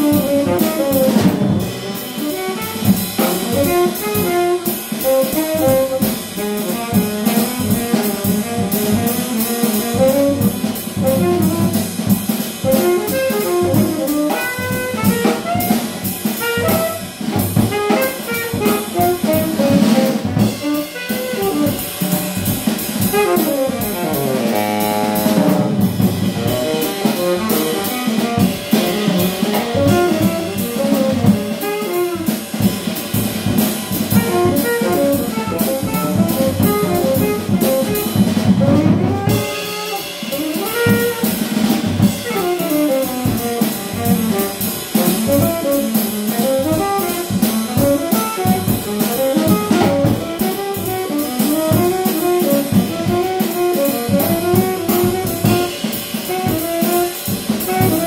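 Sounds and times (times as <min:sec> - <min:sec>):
double bass: 0:00.0 - 0:18.2, 0:18.8 - 0:48.1
drum kit: 0:00.0 - 0:58.0
piano: 0:00.0 - 0:58.0
tenor saxophone solo: 0:00.0 - 0:58.0.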